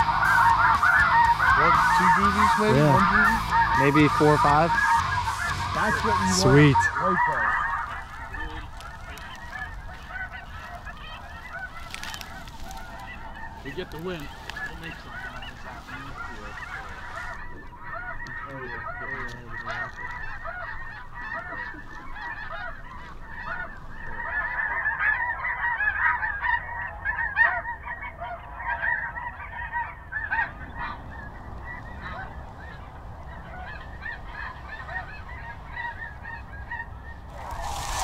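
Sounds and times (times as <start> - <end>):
geese honking in flight: 0.0 - 38.0.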